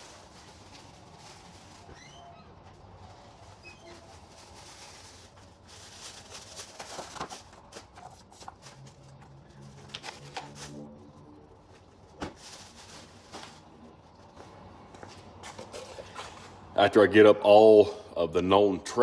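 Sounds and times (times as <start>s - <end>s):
trash rustling and clattering: 0.0s - 10.9s, 11.6s - 16.6s.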